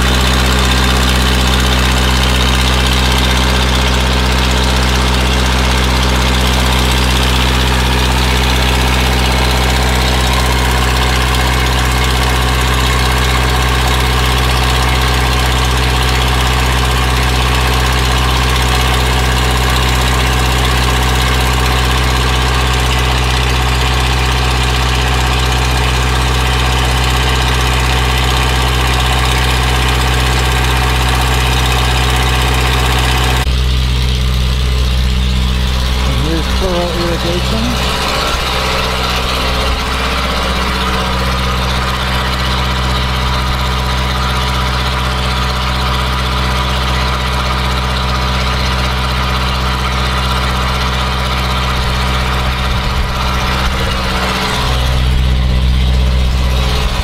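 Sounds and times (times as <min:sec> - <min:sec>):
irrigation pump noise: 0:00.0 - 0:57.0
loud diesel engine running: 0:00.0 - 0:57.0.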